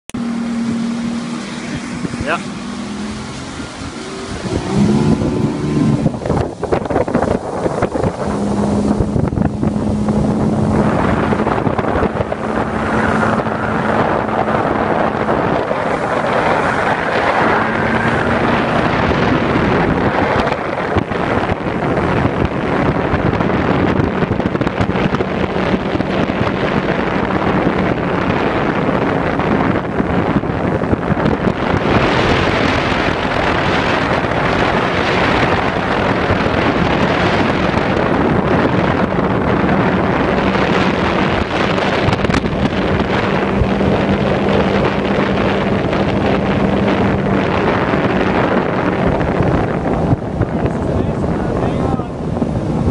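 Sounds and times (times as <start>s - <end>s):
outboard motor drone: 0.0s - 52.9s
wind buffeting microphone: 0.2s - 52.9s.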